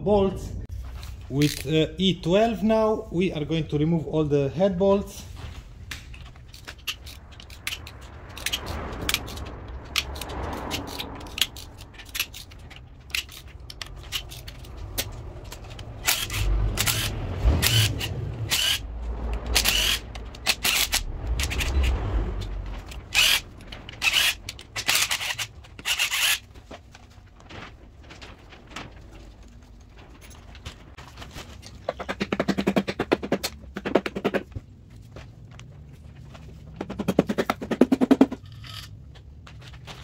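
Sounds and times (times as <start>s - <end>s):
metallic clicks and scraping: 0.9s - 1.8s, 5.8s - 34.4s, 36.8s - 40.0s.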